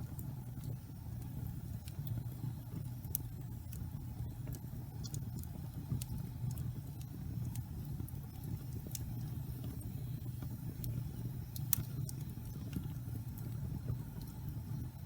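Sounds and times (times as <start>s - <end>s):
logs burning with crackles and pops: 0.0s - 15.0s.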